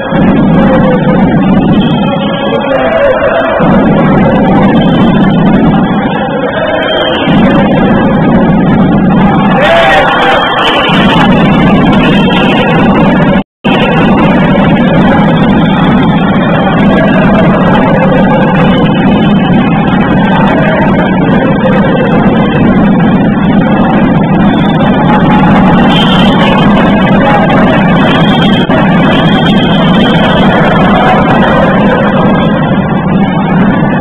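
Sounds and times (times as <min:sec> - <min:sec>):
basketball crowd din: 0:00.0 - 0:34.0.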